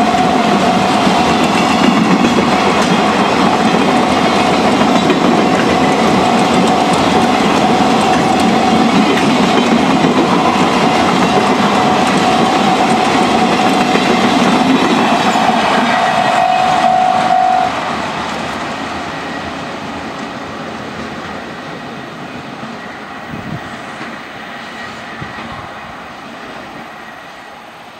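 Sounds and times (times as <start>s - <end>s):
freight train wheels clicking: 0.0s - 27.3s.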